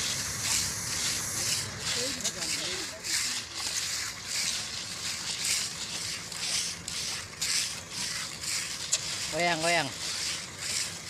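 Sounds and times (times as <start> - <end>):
tools scraping wet concrete: 0.0 - 11.0.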